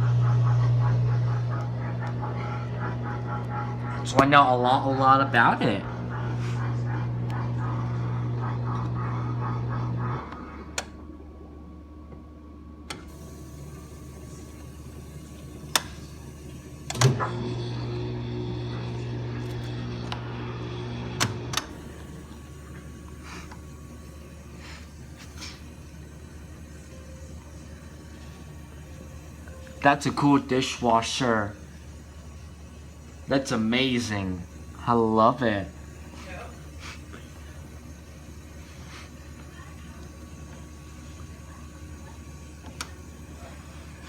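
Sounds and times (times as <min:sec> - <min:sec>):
dishwasher humming: 0:00.0 - 0:44.0.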